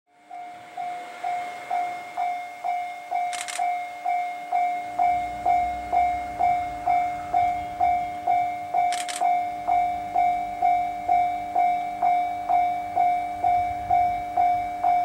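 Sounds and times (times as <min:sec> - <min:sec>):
level crossing warning bell: 0:00.1 - 0:15.0
low rumble of approaching train: 0:00.1 - 0:15.0.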